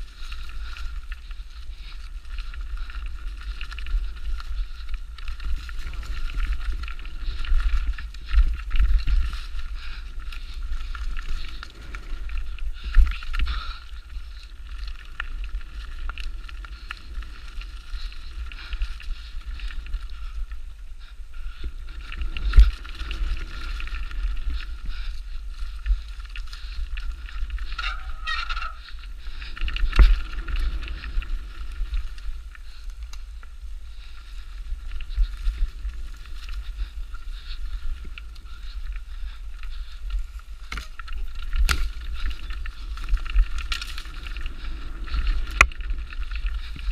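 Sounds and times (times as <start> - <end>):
mountain bike rattling on rough trail: 0.0 - 46.9
wind on microphone: 0.0 - 46.9.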